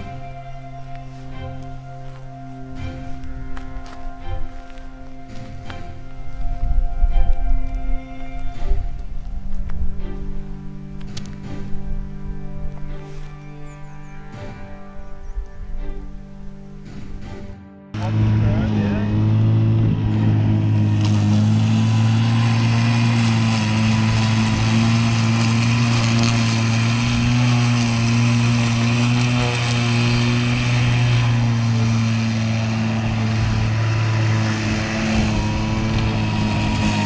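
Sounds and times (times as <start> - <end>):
electric lawn mower humming: 0.0 - 17.4, 18.0 - 37.0
cutting long grass: 0.0 - 37.0.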